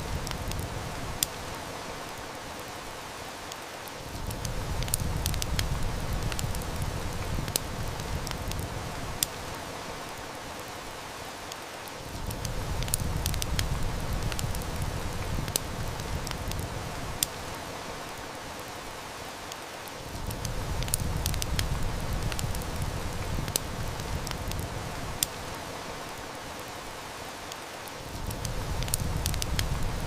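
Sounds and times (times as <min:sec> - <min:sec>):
heavy rain hissing: 0:00.0 - 0:30.0
wood fire crackling: 0:00.0 - 0:30.0.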